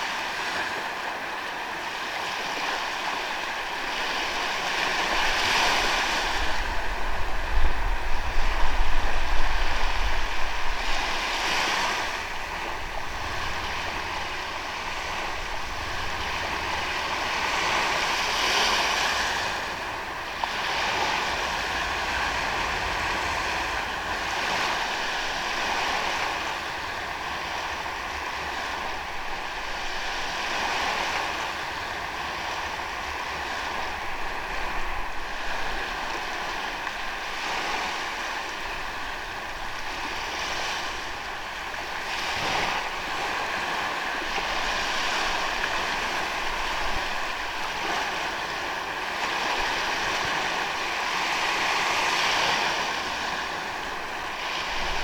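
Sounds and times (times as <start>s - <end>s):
ocean waves on beach: 0.0s - 55.0s.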